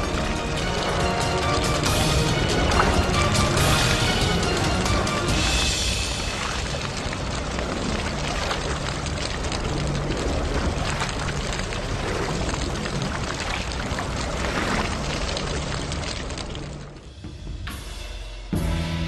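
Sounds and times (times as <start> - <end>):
rushing splashing water: 0.0 - 17.1.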